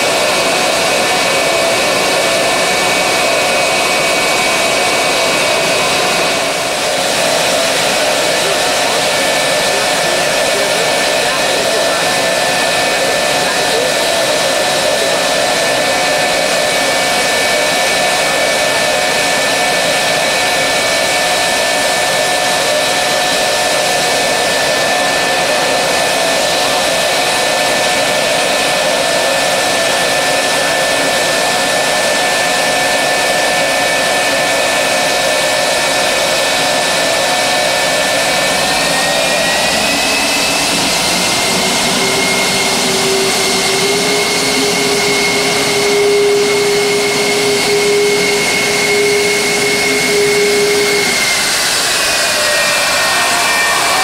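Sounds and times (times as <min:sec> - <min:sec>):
jet engine running with whine: 0:00.0 - 0:54.0.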